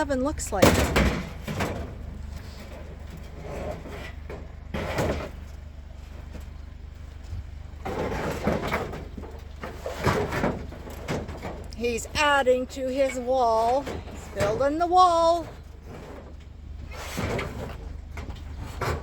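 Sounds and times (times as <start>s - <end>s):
steady low hum: 0.0s - 19.0s
scrap metal knocks and scrapes: 0.2s - 19.0s.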